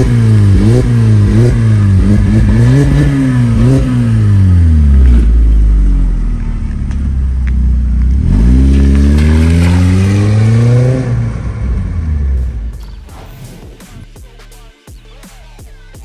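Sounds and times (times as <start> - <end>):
car engine revving and idling: 0.0 - 13.2.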